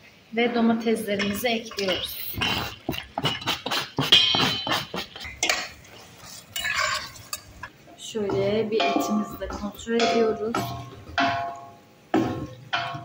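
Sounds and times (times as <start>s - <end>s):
metal utensil scraping a pot: 1.1s - 11.6s.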